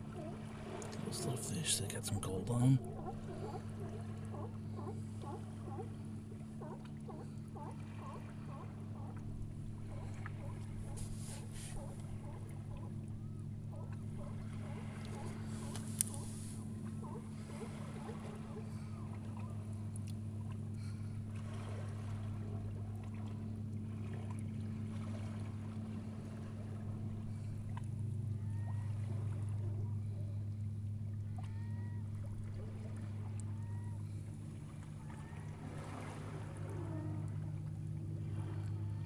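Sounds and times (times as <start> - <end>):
low motor hum: 0.0 - 39.0.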